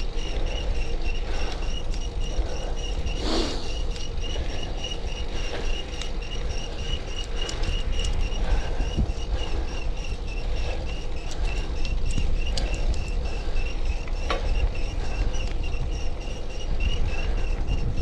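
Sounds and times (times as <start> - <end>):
bicycle chain chirping: 0.0 - 18.0
wind rumble on microphone: 0.0 - 18.0.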